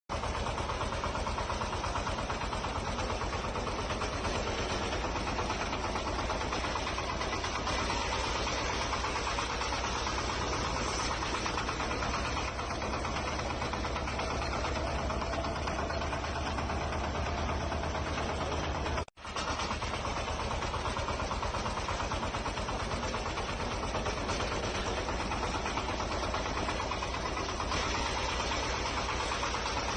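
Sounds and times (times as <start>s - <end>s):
small model tractor engine running: 0.1s - 29.9s.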